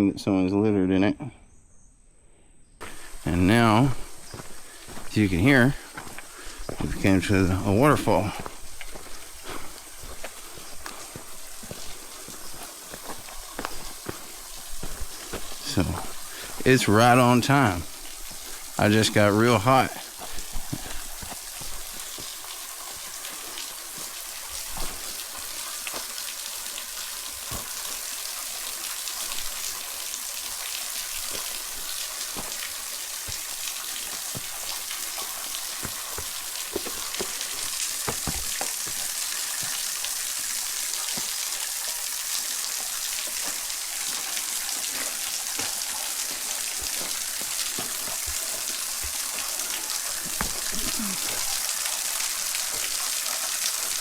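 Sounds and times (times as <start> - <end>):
waterfall splashing: 2.9 - 54.0.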